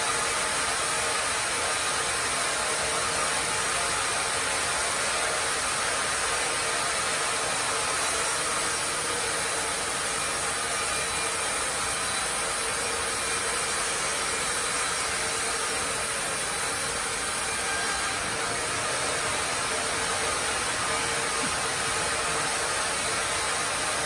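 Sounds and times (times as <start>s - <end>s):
band sawmill running: 0.0s - 24.0s.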